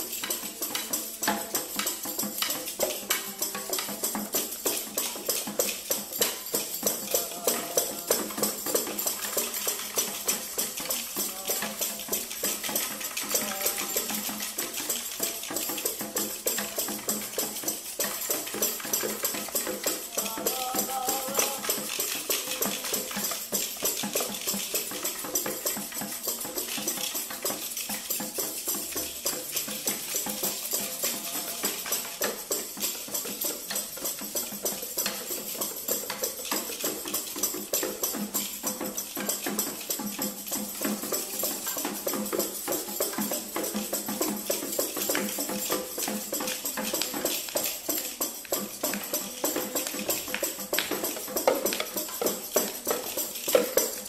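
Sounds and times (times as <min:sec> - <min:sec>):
hand percussion taps and clicks: 0:00.0 - 0:54.0.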